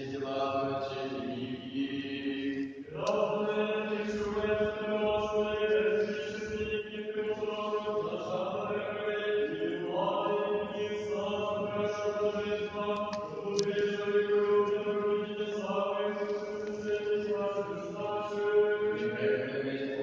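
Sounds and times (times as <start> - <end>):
voices chanting: 0.8 - 20.0.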